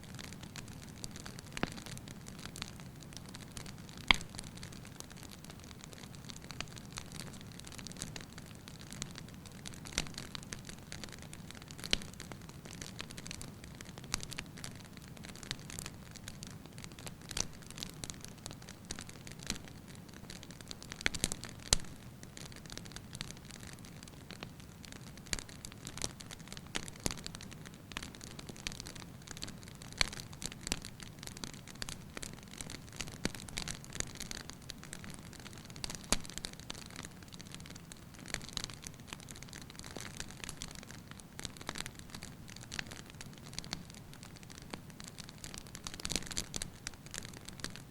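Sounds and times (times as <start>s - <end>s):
firewood crackling and popping: 0.0s - 47.9s.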